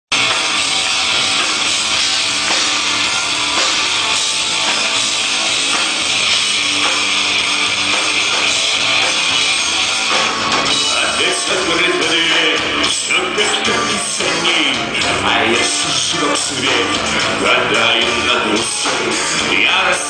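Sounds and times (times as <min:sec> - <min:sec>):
drum kit with cymbals: 0:00.1 - 0:20.0
electric guitars: 0:00.1 - 0:20.0.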